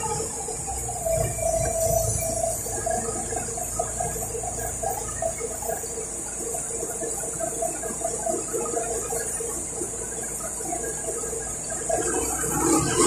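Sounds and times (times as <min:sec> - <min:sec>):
bus engine drone: 0:00.0 - 0:13.0
constant high hiss: 0:00.0 - 0:13.0
wavering whine: 0:00.0 - 0:13.0.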